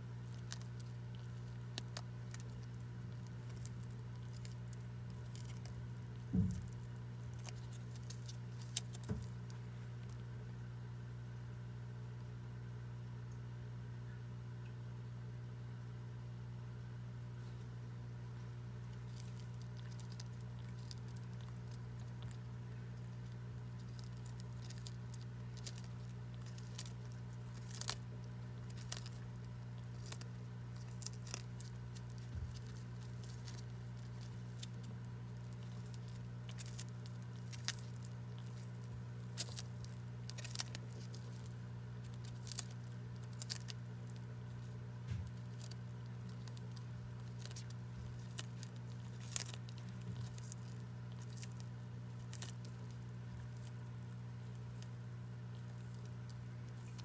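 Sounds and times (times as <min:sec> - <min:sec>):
tortoise chewing leafy greens: 0:00.0 - 0:11.6, 0:17.3 - 0:57.0
steady low hum: 0:00.0 - 0:57.0.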